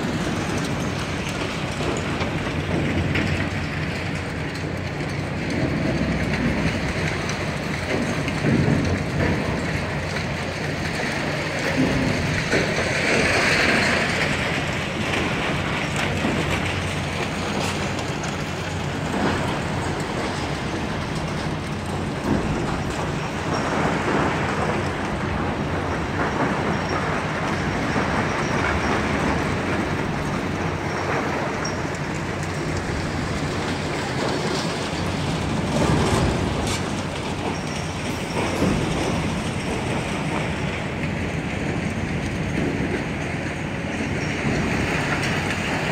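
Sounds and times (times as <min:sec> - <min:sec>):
diesel engines running: 0:00.0 - 0:45.9
excavators rumbling: 0:00.0 - 0:45.9.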